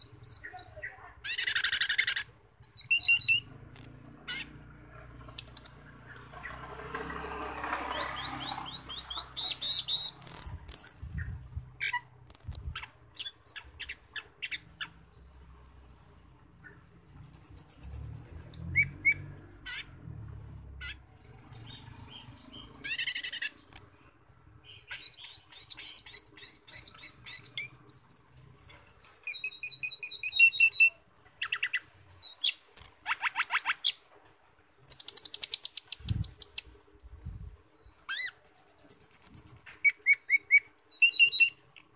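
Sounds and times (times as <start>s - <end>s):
starling singing: 0.0s - 4.6s, 5.2s - 16.1s, 17.2s - 34.0s, 34.9s - 41.6s.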